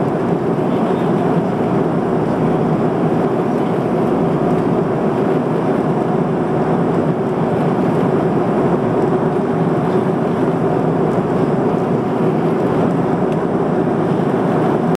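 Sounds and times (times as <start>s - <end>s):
airliner cabin engine rush: 0.0s - 14.9s.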